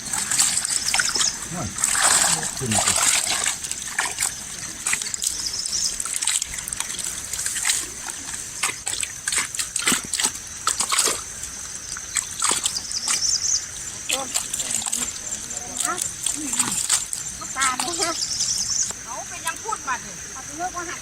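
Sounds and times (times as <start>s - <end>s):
water splashing and dripping: 0.0s - 20.0s.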